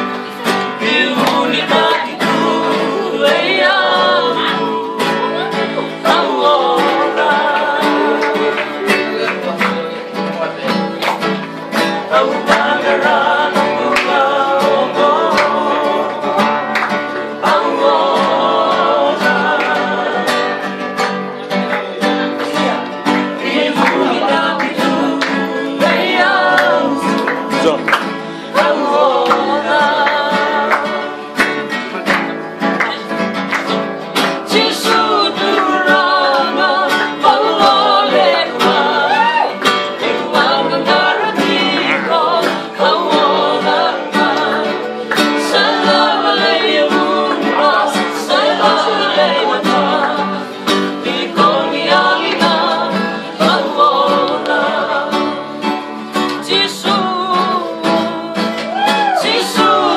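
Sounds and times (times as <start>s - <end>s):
men singing together: 0.0s - 10.6s, 11.7s - 21.0s, 22.6s - 32.2s, 34.2s - 59.9s
acoustic guitars strumming: 0.0s - 59.9s.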